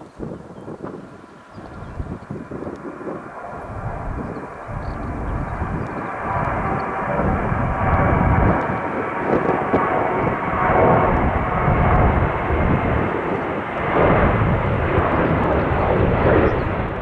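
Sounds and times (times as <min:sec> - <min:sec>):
airliner engines: 0:00.0 - 0:17.0
wind rumbling on microphone: 0:00.0 - 0:17.0.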